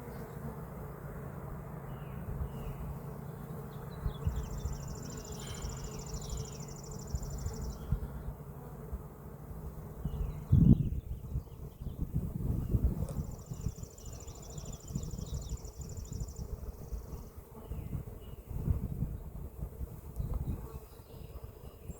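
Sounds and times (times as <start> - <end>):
bees buzzing: 0.0 - 21.9.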